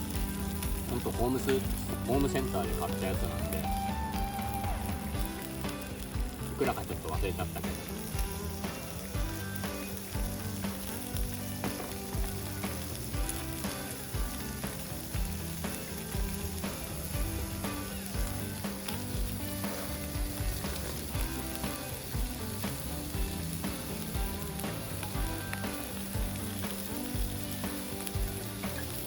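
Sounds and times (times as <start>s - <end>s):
meat sizzling on iron plate: 0.0s - 29.0s.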